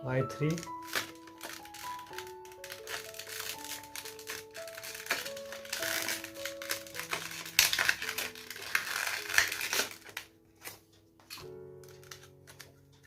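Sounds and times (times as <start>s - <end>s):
background music: 0.0s - 13.0s
packaging rustling and crinkling: 0.3s - 13.0s.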